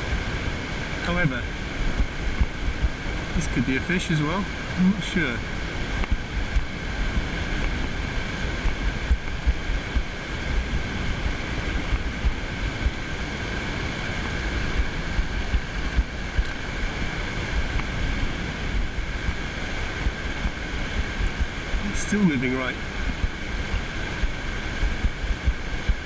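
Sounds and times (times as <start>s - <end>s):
small waves washing on sand: 0.0s - 26.0s
wind buffeting microphone: 0.0s - 26.0s.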